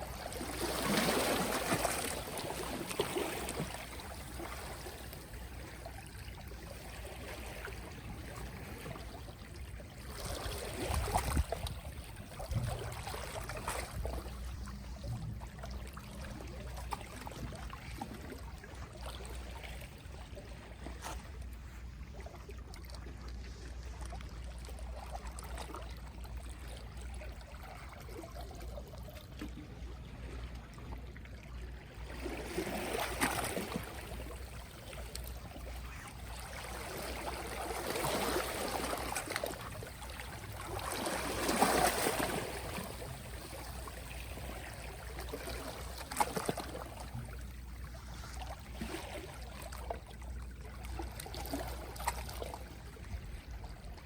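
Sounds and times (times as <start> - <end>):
gentle sea waves on shore: 0.0 - 54.0.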